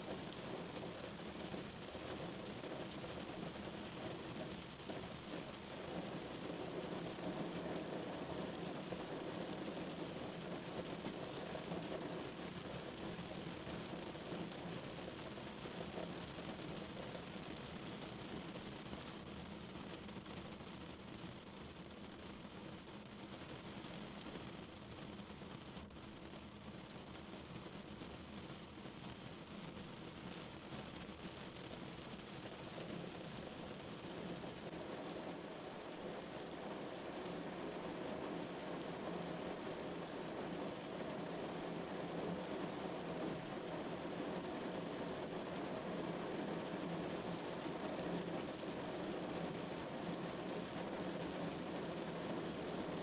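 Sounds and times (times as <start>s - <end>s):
rain pattering on a car: 0.0s - 53.0s.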